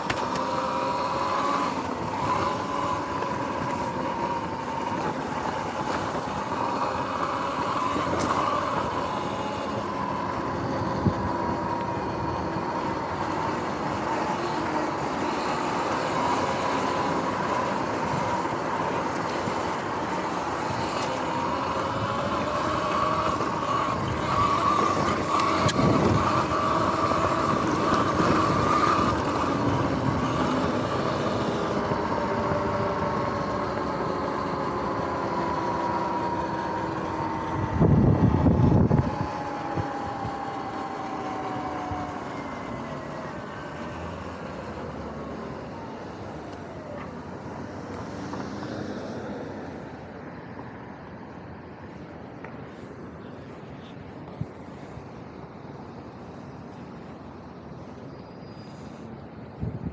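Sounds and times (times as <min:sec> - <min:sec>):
electric motor whining: 0:00.0 - 0:49.0.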